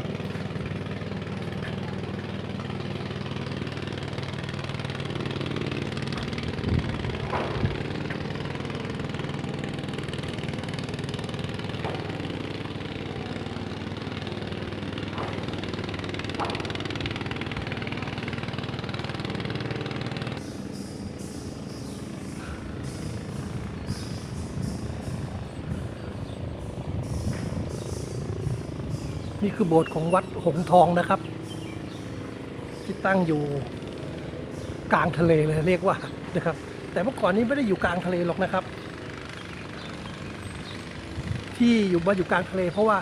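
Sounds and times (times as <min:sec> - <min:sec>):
engine humming: 0:00.0 - 0:43.0.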